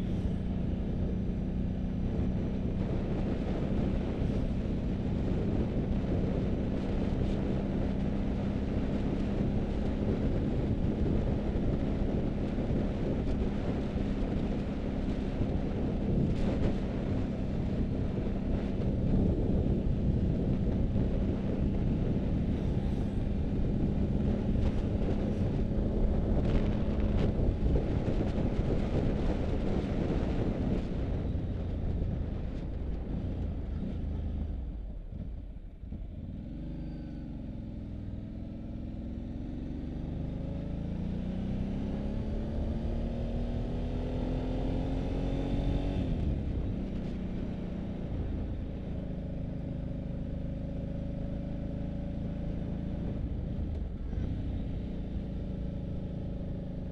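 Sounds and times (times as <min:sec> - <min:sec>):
motorcycle engine: 0:00.0 - 0:56.9
wind rushing over microphone: 0:00.0 - 0:56.9.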